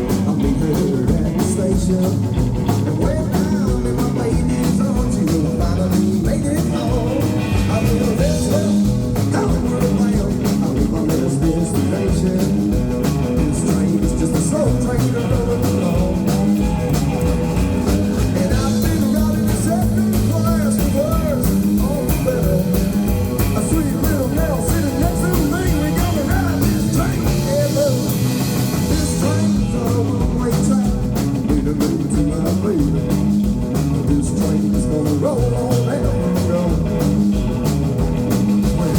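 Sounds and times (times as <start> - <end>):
live band playing rock and roll: 0.0 - 38.9.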